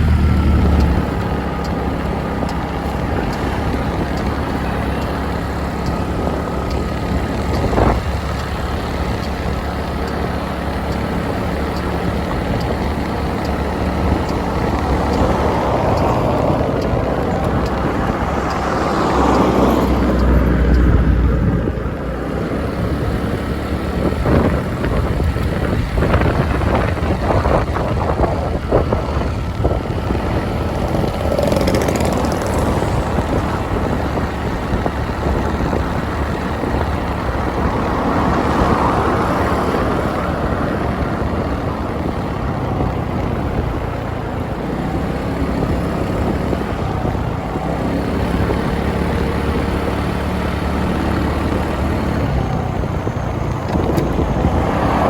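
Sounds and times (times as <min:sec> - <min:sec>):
motorbike engine: 0:00.0 - 0:55.0
road noise: 0:00.0 - 0:55.0.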